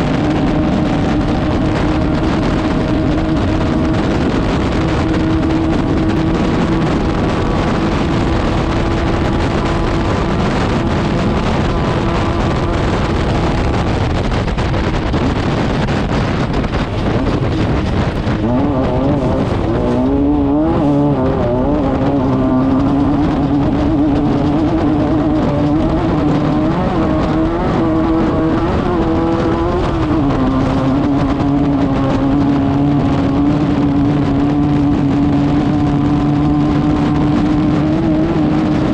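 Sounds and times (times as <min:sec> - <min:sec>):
race car engine at high revs: 0:00.0 - 0:38.9
rush of noise: 0:00.0 - 0:38.9.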